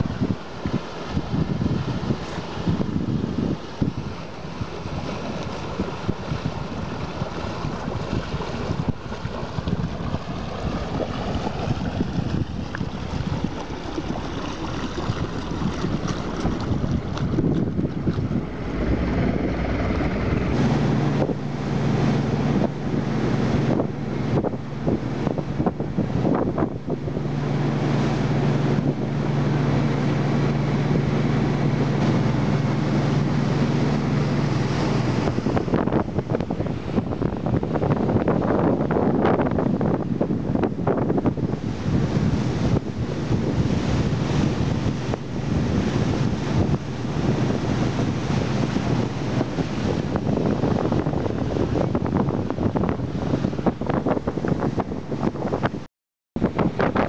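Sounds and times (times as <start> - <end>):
boat engine running: 0.0 - 55.8, 56.4 - 57.0
water rushing at hull: 0.0 - 57.0
wind buffeting microphone: 0.0 - 57.0.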